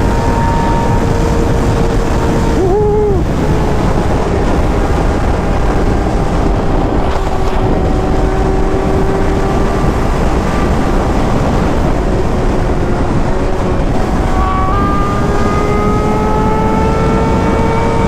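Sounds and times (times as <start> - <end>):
motorcycle engine cruising: 0.0 - 18.0
wind buffeting microphone: 0.0 - 18.0.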